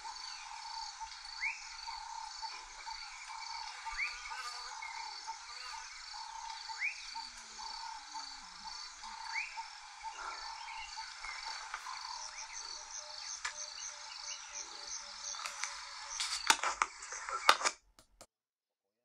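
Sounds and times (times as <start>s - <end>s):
frogs and insects chorus: 0.0s - 17.4s.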